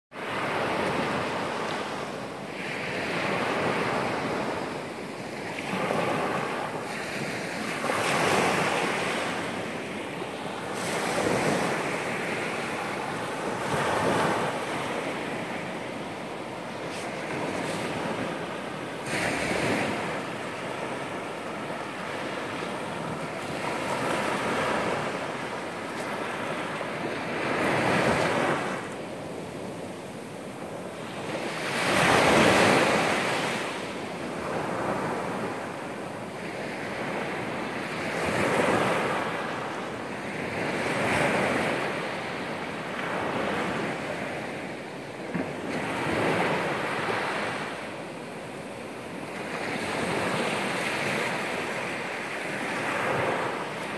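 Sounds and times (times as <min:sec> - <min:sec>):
waves breaking on a beach: 0:00.1 - 0:53.9.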